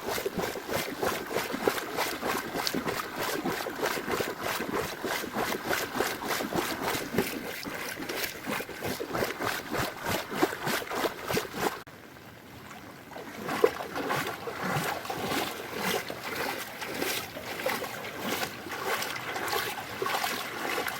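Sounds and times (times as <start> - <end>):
footsteps splashing through water: 0.0 - 11.9, 13.2 - 20.9.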